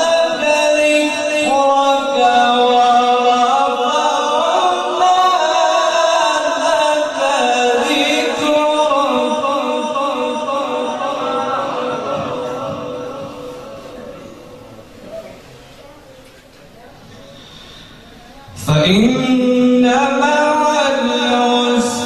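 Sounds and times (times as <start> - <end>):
man reciting melodically: 0.0 - 15.2, 18.5 - 22.0.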